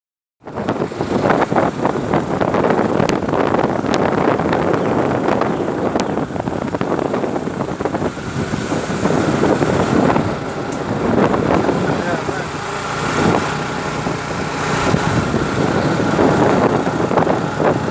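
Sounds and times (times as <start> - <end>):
vehicle and road noise: 0.4 - 17.9
wind rushing over microphone: 0.4 - 17.9.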